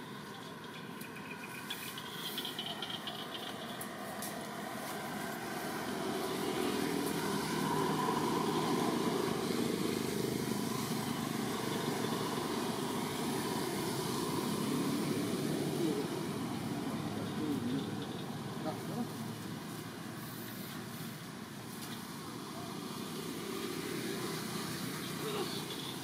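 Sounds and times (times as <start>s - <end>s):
motor vehicle engine drone: 0.0s - 26.0s.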